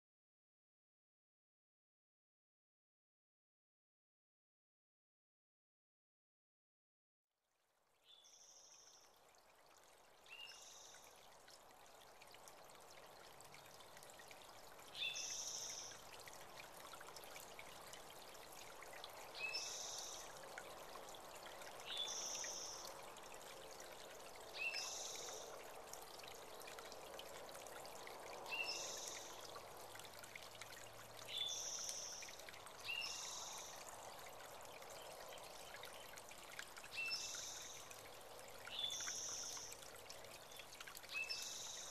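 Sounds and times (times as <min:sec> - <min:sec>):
creek trickling: 0:07.7 - 0:41.9.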